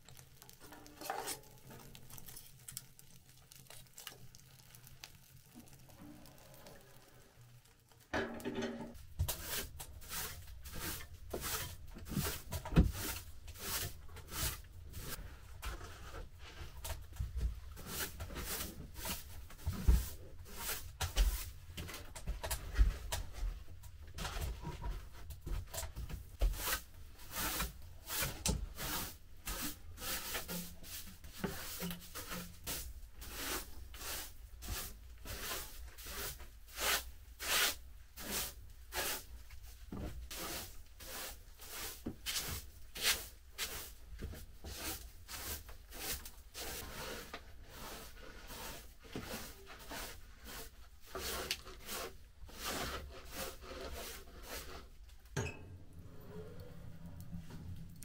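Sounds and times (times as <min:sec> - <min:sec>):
broom sweeping wooden floor: 0:00.4 - 0:02.3, 0:08.9 - 0:23.6, 0:24.2 - 0:55.2.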